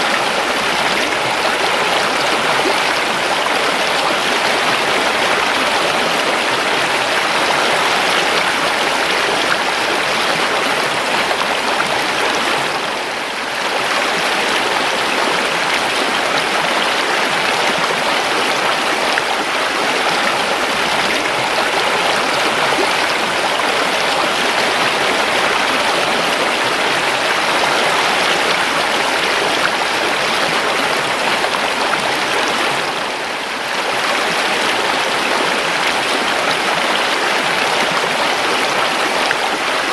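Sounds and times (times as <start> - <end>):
river water flowing and babbling: 0.0 - 39.9.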